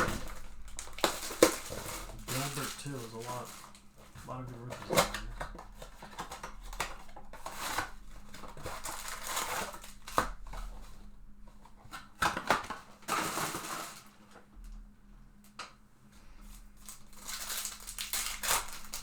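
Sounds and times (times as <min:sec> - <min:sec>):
wrappers rustling and crinkling: 0:00.0 - 0:14.2, 0:16.4 - 0:19.0.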